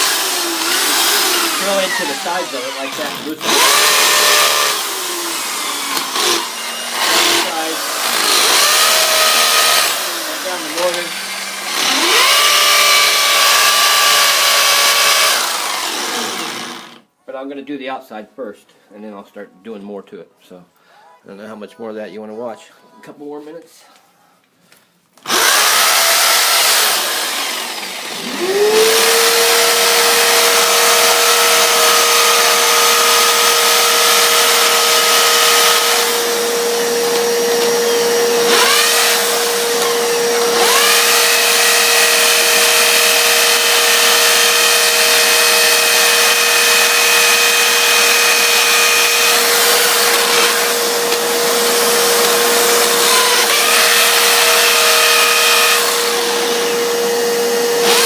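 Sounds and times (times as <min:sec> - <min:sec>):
electric drill grinding into stone: 0:00.0 - 0:17.1, 0:25.2 - 0:58.0.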